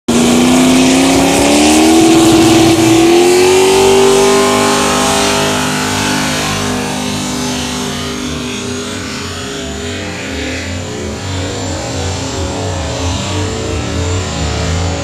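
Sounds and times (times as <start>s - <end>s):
car engine accelerating hard: 0.1s - 15.0s.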